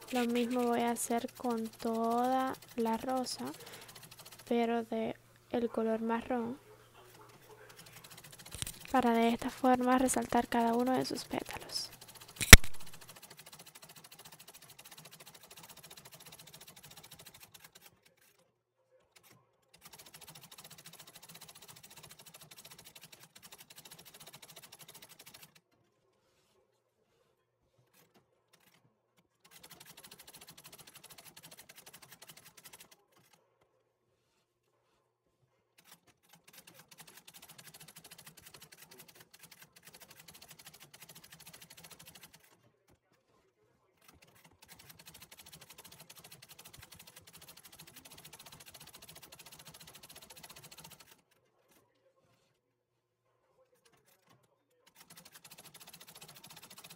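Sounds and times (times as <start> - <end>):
treadle sewing machine stitching: 0.0 - 4.6, 5.6 - 18.4, 19.1 - 25.7, 27.8 - 28.8, 29.4 - 33.4, 35.8 - 43.0, 44.0 - 51.4, 53.8 - 56.9.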